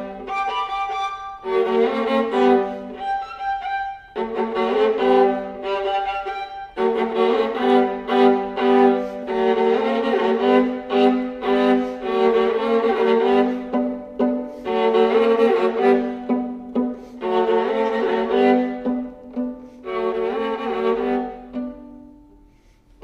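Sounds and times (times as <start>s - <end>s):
solo viola quick bowed notes: 0.0s - 22.7s.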